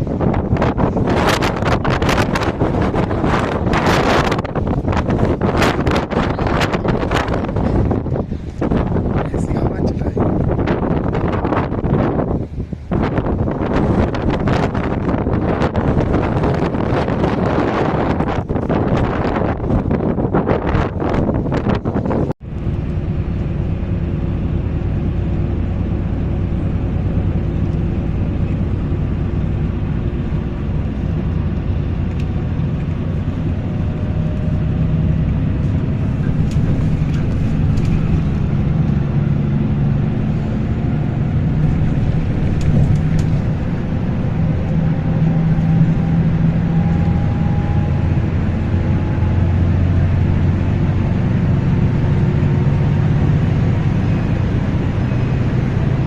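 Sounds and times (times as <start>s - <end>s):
strong wind on microphone: 0.0s - 56.0s.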